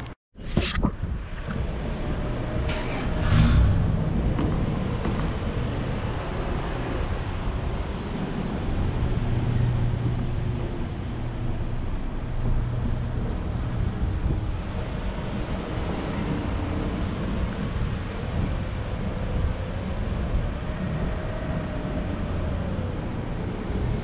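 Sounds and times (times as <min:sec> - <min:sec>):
road noise: 0:00.0 - 0:24.0
vehicle engine rumble: 0:00.0 - 0:24.0.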